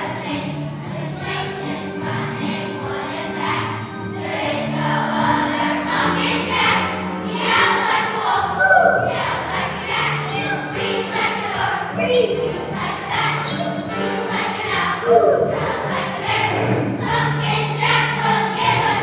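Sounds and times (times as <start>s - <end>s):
children's choir singing: 0.0s - 19.0s
instrumental accompaniment: 0.0s - 19.0s.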